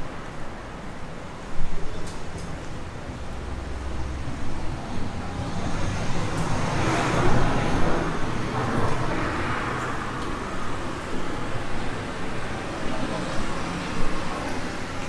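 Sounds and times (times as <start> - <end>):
cars passing by: 2.3 - 15.0.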